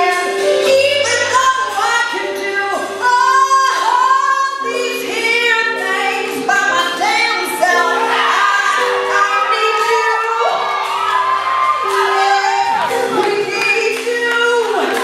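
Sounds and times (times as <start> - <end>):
woman singing into a microphone: 0.0 - 10.7, 11.9 - 15.0.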